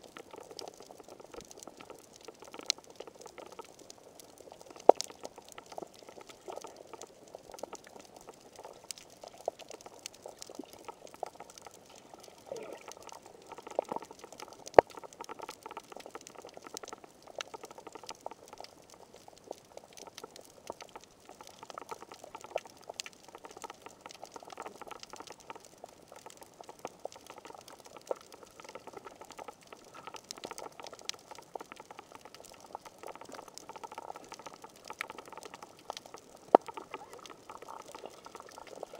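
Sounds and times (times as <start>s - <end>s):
bubbling water: 0.0s - 38.9s
muffled underwater crackle of clicks: 0.0s - 38.9s.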